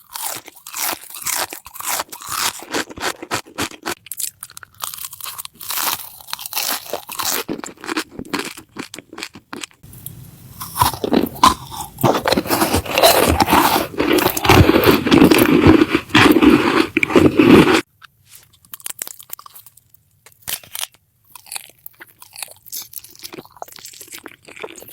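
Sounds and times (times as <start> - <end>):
crunching and chewing crisp food: 0.0 - 24.9.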